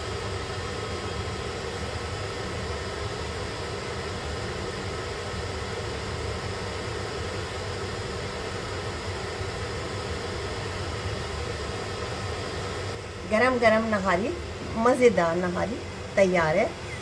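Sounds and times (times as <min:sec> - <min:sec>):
fan-like hum and hiss: 0:00.0 - 0:17.0.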